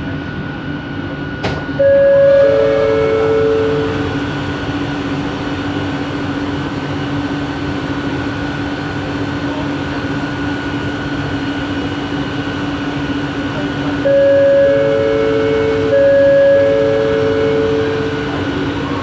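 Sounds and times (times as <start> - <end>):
train running rumble: 0.0 - 19.0
train motor whine: 1.0 - 19.0.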